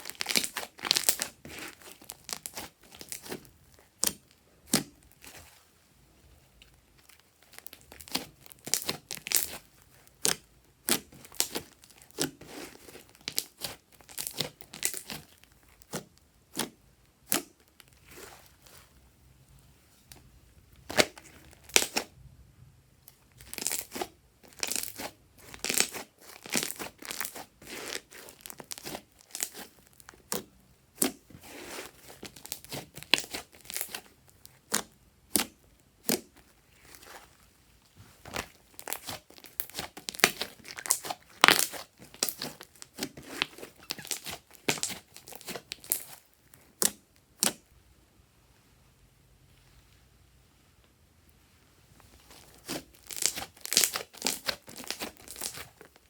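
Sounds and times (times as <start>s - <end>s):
slime sticky crackling: 0.0s - 5.6s, 7.0s - 19.0s, 20.1s - 22.1s, 23.3s - 37.4s, 38.2s - 47.6s, 52.1s - 56.0s.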